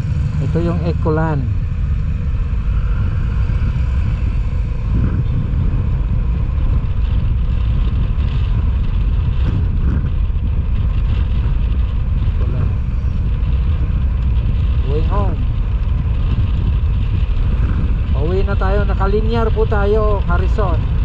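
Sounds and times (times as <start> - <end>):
road noise: 0.0 - 21.0
wind and engine rumble: 0.0 - 21.0.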